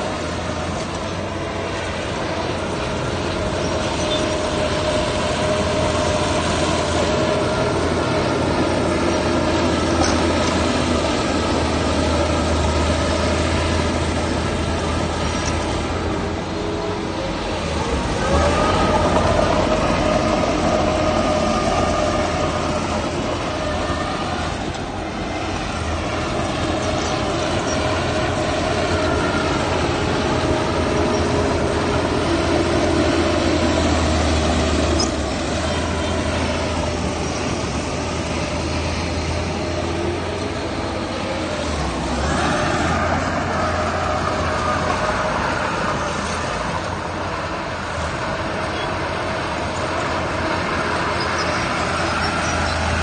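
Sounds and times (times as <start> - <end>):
diesel machinery running: 0.0 - 53.0.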